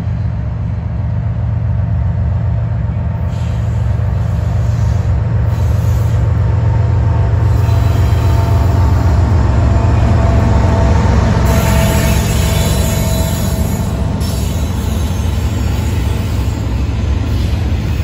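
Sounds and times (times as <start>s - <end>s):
locomotive engine drone: 0.0s - 18.0s.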